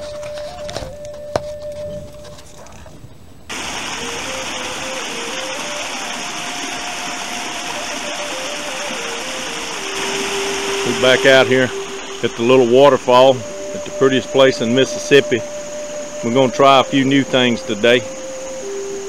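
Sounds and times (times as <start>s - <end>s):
slow flute melody: 0.0s - 2.8s, 3.5s - 19.0s
loud steady hiss: 3.5s - 19.0s.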